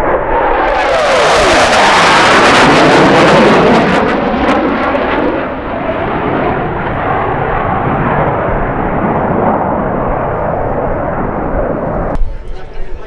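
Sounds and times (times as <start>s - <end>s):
military jets passing: 0.0s - 13.0s.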